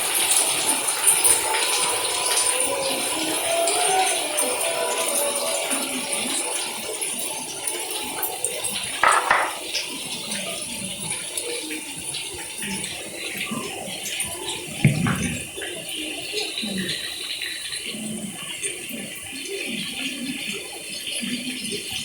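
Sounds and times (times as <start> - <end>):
indistinct crowd chatter: 0.0 - 22.0.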